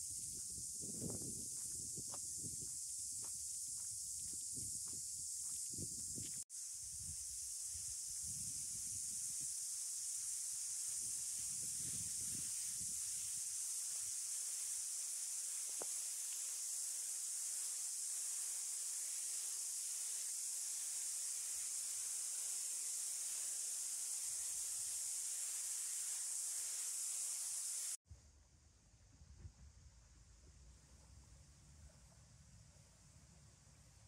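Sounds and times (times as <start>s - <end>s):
cicadas chorusing: 0.0s - 28.0s.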